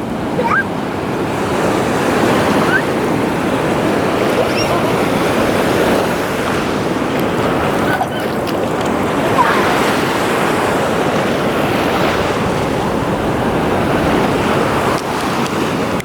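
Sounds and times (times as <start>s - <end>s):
ocean surf washing onto beach: 0.0s - 16.0s
wind on microphone: 0.0s - 16.0s.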